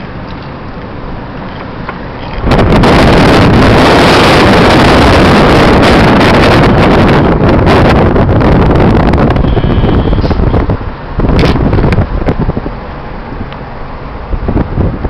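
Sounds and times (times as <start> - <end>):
car road noise: 0.0 - 15.0
wind rushing over microphone: 0.0 - 15.0.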